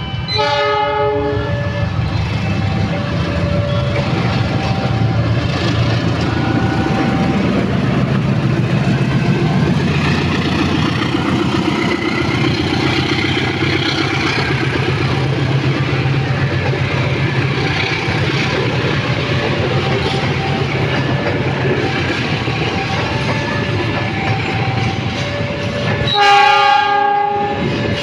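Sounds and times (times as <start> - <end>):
diesel locomotive engine running: 0.0 - 28.0
train coaches rolling on rails: 0.0 - 28.0.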